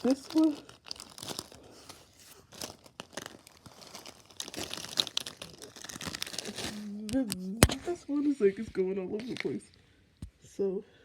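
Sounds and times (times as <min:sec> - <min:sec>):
gift-wrap packaging crinkling: 0:00.0 - 0:09.8.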